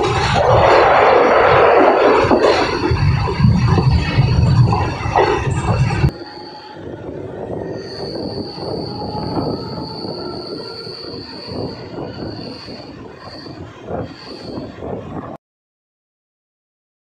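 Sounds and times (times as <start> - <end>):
train coach rumbling and rattling: 0.0 - 15.4
train wheels squealing on rails: 0.1 - 15.4.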